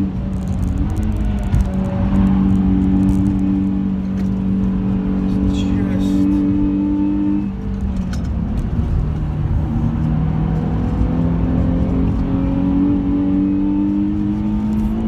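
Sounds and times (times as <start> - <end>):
car engine accelerating: 0.0 - 15.0
road and tyre rumble: 0.0 - 15.0.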